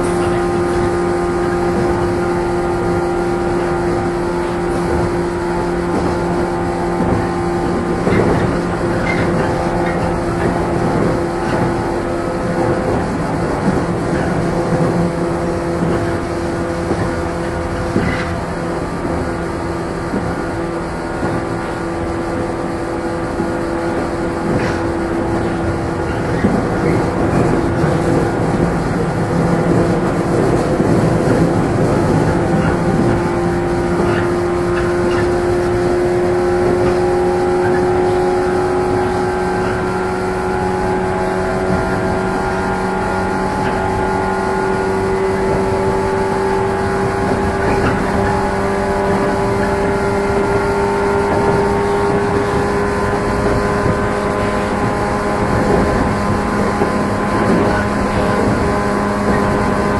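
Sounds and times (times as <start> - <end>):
train motor hum and whine: 0.0 - 59.9
wheels rumbling on rail: 0.0 - 59.9.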